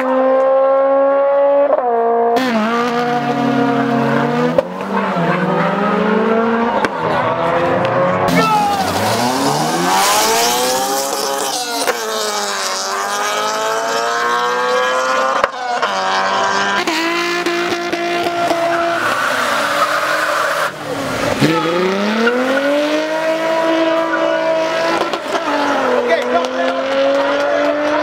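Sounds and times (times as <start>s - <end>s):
car engines at full throttle: 0.0s - 28.0s.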